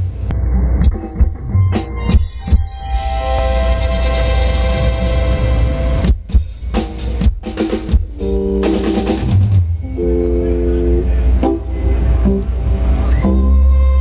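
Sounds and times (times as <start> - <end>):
rock band holding chords: 0.0 - 14.0.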